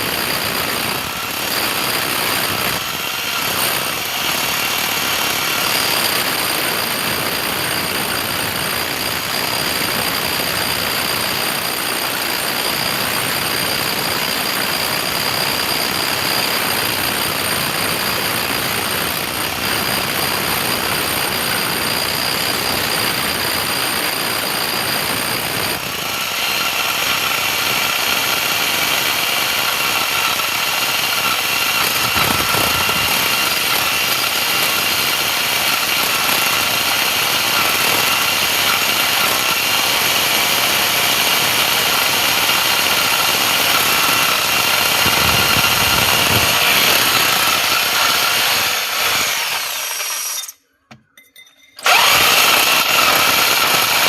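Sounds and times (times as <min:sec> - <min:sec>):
electric drill running under load: 0:00.0 - 0:50.5, 0:51.8 - 0:54.0.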